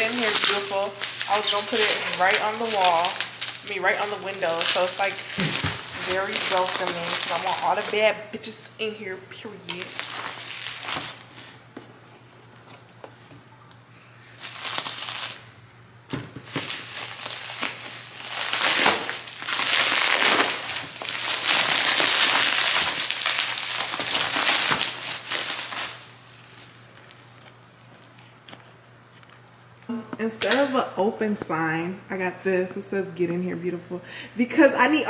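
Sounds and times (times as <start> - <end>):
bubble wrap crinkling: 0.0 - 15.8, 16.4 - 29.9.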